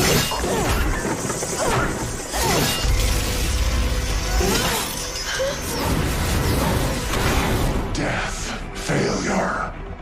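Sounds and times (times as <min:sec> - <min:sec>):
dramatic background music: 0:00.0 - 0:10.0.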